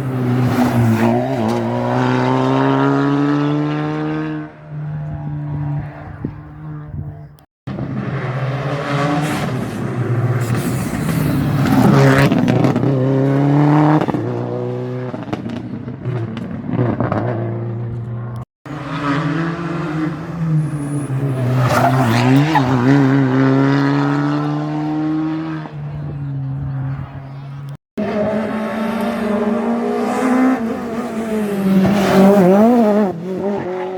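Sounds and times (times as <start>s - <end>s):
rally car engines at full throttle: 0.0s - 33.9s.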